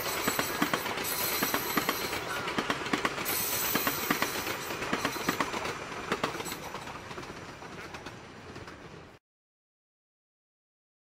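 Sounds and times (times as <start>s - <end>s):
electric train passing: 0.0s - 9.2s
wheels clicking over rail joints: 0.0s - 9.2s.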